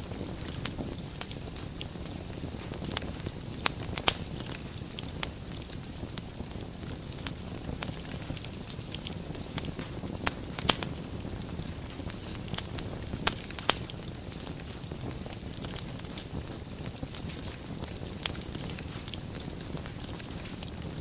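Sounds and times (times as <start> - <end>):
fire flames rumbling: 0.0 - 21.0
wood crackling and popping: 0.0 - 21.0.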